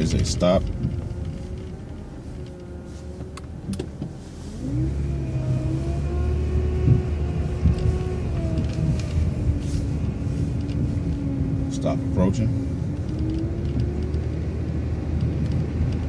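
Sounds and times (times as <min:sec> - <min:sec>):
bus engine accelerating: 0:00.0 - 0:16.0
drivetrain whine: 0:00.0 - 0:16.0.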